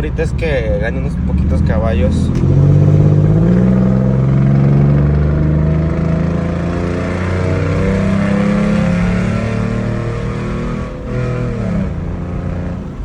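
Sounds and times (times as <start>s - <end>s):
car engine and exhaust running: 0.0s - 13.0s.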